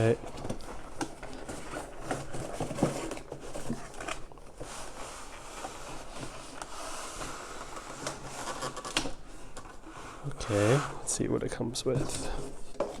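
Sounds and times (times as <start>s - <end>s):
cardboard rustling and scraping: 0.0s - 13.0s.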